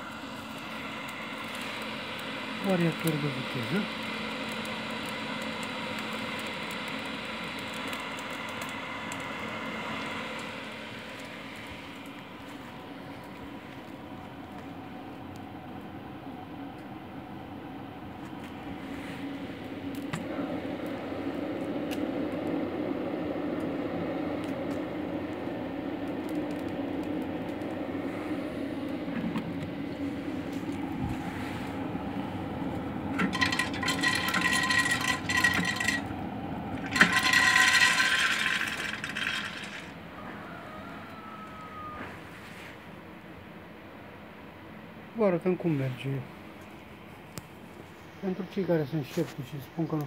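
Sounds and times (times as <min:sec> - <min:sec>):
blower fan whirring: 0:00.0 - 0:50.0.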